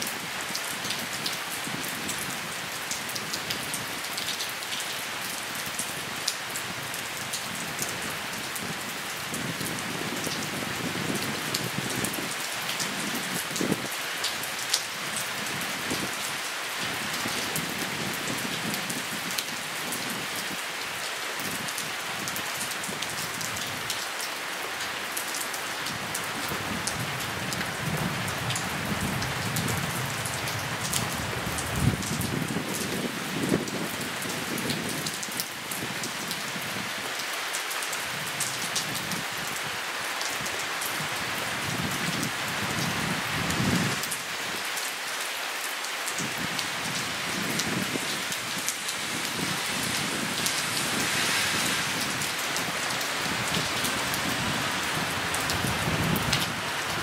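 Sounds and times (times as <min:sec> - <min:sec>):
rain falling on grass and path: 0:00.0 - 0:57.0.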